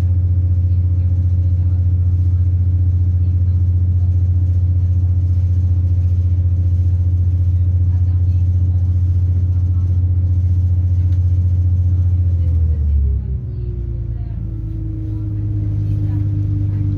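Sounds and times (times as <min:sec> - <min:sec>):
train diesel engine drone: 0:00.0 - 0:16.9.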